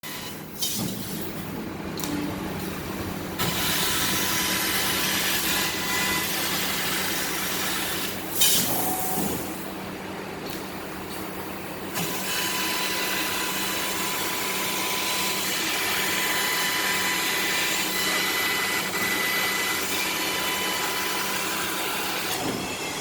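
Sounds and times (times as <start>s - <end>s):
machine hum: 1.2s - 23.0s.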